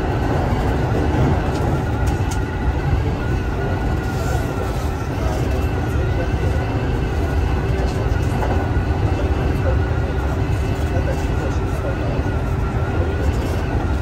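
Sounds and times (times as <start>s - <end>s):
electric train wheels rumbling: 0.0s - 14.0s.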